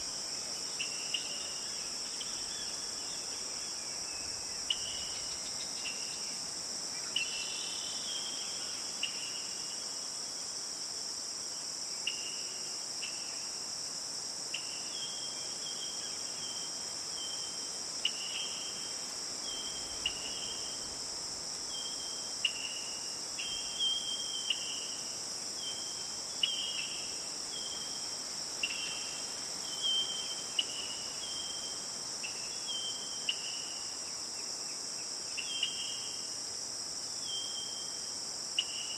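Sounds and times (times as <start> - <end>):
crickets droning: 0.0 - 38.9.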